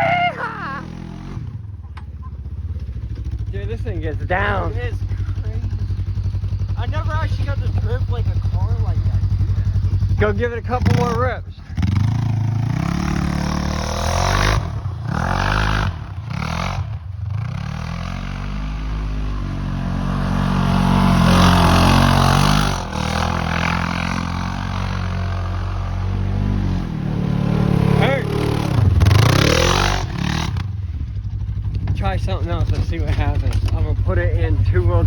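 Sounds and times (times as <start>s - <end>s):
engine revving: 0.0s - 1.7s, 2.8s - 35.0s.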